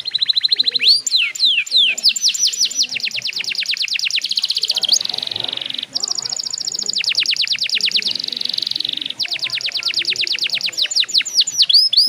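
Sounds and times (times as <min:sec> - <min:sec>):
canary singing whistled notes: 0:00.0 - 0:12.0.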